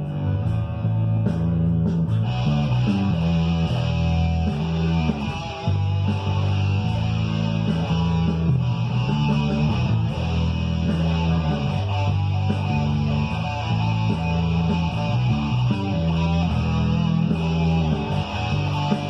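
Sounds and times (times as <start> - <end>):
bass line: 0.0 - 19.0
electric guitar: 0.0 - 19.0.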